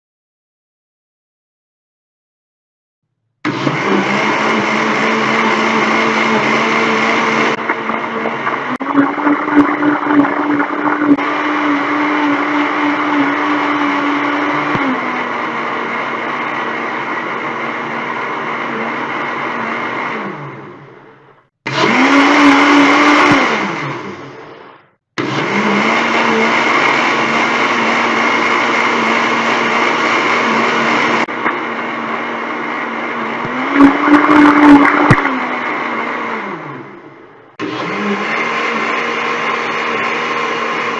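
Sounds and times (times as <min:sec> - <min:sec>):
blender motor whine: 0:03.5 - 0:21.1, 0:21.7 - 0:40.9.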